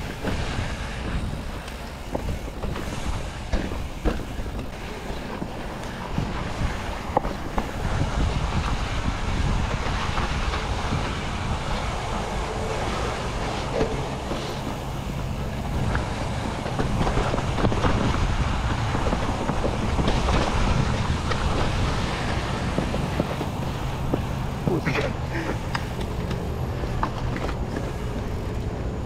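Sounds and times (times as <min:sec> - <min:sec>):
bike rattling: 0:00.0 - 0:29.0
wind on microphone: 0:00.0 - 0:29.0.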